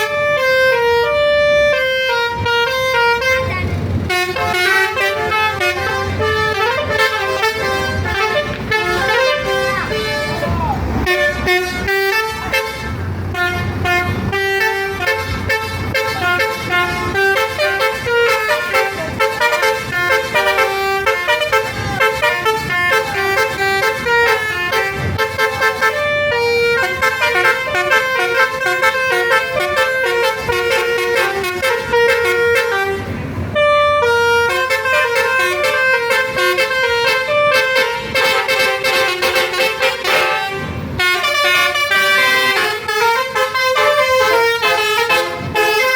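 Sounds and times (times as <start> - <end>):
bus engine rumble: 0.0 - 45.9
bus musical horn playing a tune: 0.0 - 45.9.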